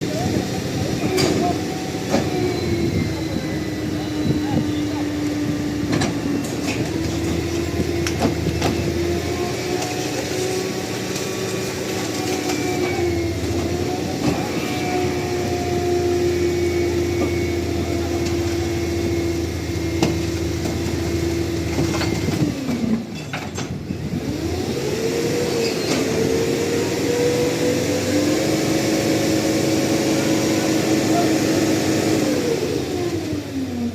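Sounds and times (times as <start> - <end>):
garbage truck engine droning: 0.0 - 33.9.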